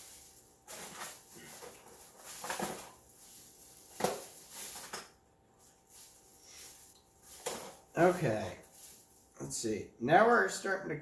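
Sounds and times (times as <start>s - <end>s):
rustling and handling noises: 0.0s - 9.7s.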